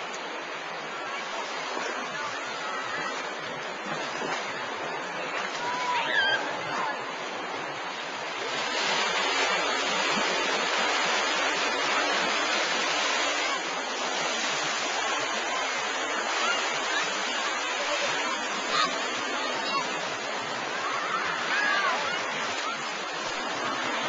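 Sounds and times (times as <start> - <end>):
wave breaking and washing: 0.0 - 24.0.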